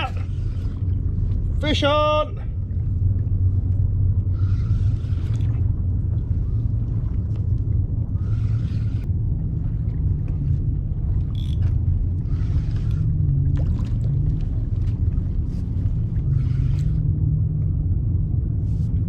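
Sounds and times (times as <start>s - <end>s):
water swishing against hull: 0.0s - 19.0s
wind and water rumble on microphone: 0.0s - 19.0s.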